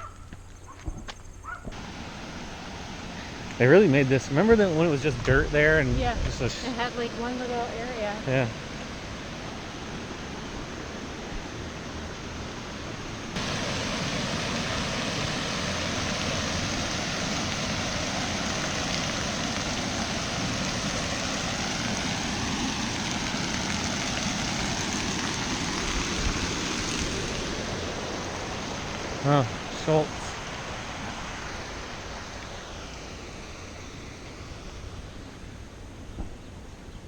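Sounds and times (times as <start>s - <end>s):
steady outdoor rushing noise: 1.7s - 37.0s.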